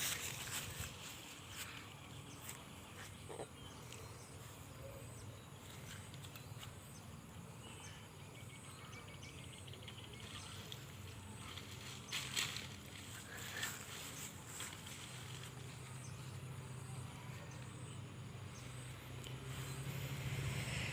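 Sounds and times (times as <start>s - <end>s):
low outdoor background noise: 0.0s - 20.9s.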